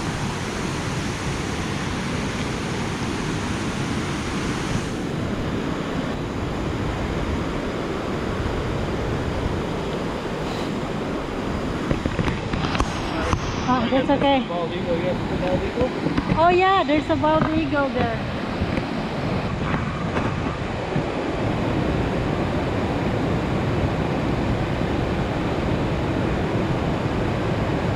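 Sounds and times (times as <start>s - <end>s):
river rushing over rocks: 0.0s - 27.9s.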